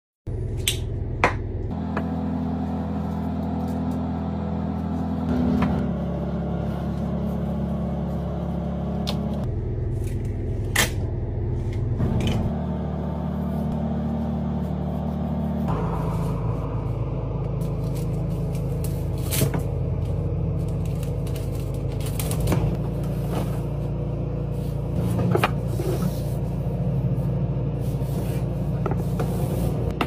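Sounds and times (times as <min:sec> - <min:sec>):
low mechanical hum: 0:00.3 - 0:30.0.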